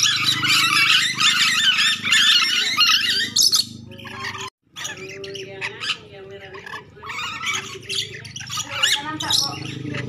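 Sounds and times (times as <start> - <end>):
lorikeet screeching calls: 0.0 - 10.0.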